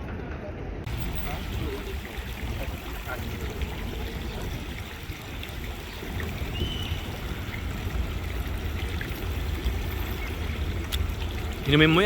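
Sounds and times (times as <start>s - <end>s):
running water rushing: 0.9s - 12.0s.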